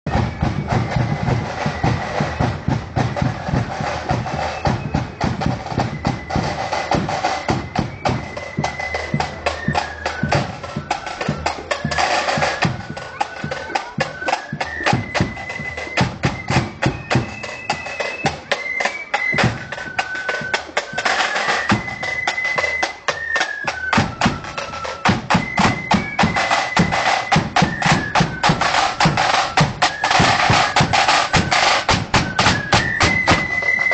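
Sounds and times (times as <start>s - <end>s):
side drums and bass drum beating: 0.1s - 18.6s, 19.3s - 33.9s.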